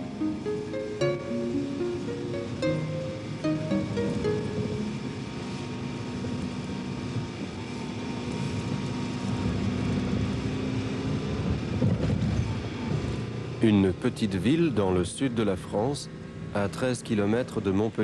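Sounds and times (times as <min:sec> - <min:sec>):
car engine hum: 0:00.0 - 0:18.0
road rumble: 0:00.0 - 0:18.0.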